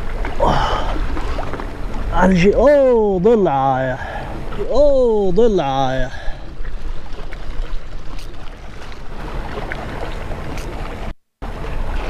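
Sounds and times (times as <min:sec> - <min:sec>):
sea water washing against rocks: 0:00.0 - 0:11.1.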